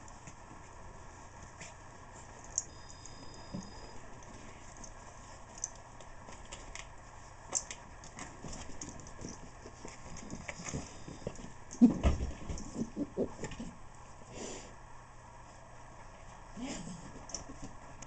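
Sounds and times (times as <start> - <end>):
dog paws clicking on carpet: 0.0 - 14.1, 15.4 - 18.0.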